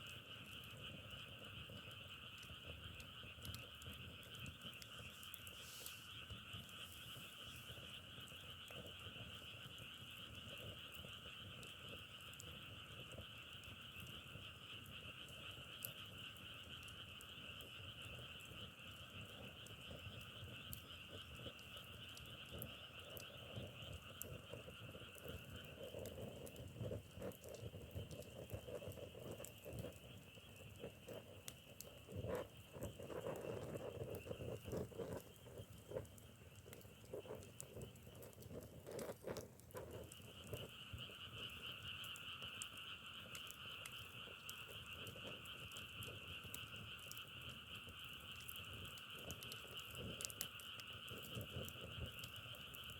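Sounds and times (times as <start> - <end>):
low pulsing frog croaks: 0.1 - 52.9
chorus of frogs calling: 0.5 - 52.9.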